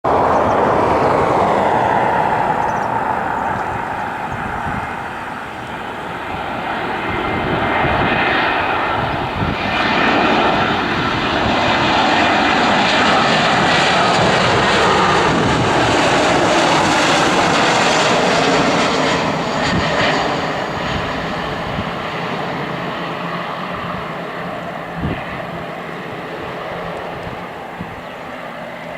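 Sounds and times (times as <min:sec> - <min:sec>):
jet engines landing: 0:00.0 - 0:28.9.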